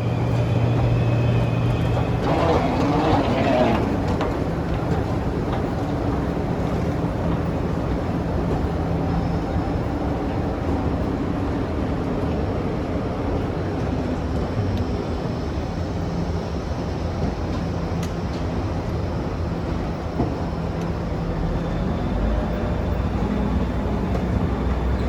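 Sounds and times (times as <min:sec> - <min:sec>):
train droning: 0:00.0 - 0:25.0.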